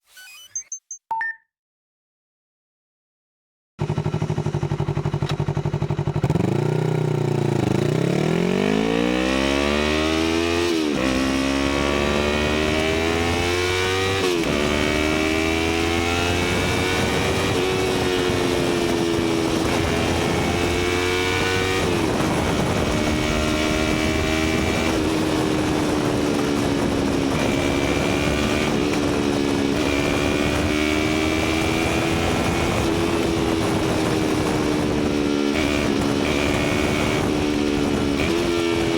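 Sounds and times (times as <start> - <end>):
motorcycle engine revving: 3.8 - 38.9.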